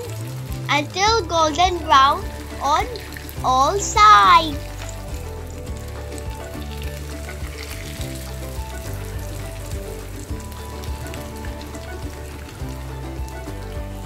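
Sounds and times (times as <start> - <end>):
background music: 0.0 - 14.0
oil sizzling in a pan: 0.0 - 14.0.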